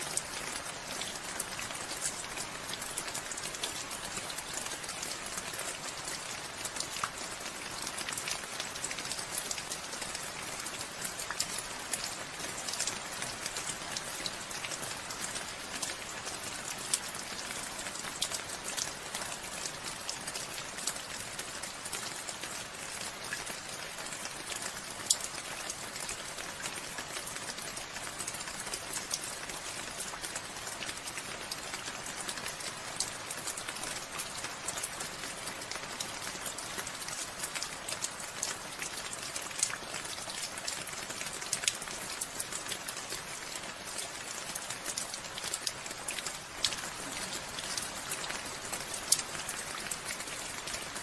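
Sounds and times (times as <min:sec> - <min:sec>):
rain drops pattering: 0:00.0 - 0:51.0.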